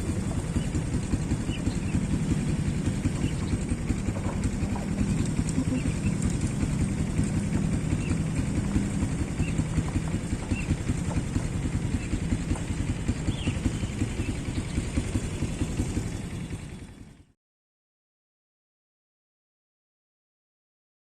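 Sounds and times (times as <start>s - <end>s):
small engine low putter: 0.0s - 17.4s.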